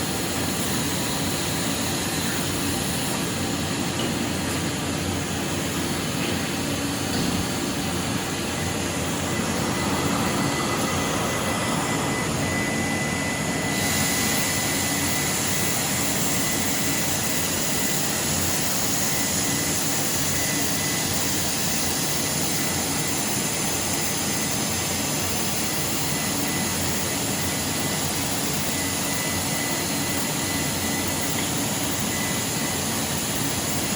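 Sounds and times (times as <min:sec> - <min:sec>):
grinding machine hiss: 0:00.0 - 0:33.9
thin high whine: 0:00.0 - 0:33.9.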